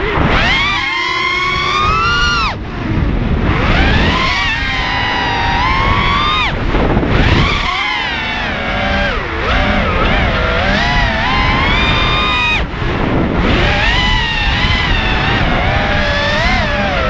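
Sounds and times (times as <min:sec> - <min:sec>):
drone motors whining: 0:00.0 - 0:17.0
wind on microphone: 0:00.0 - 0:17.0.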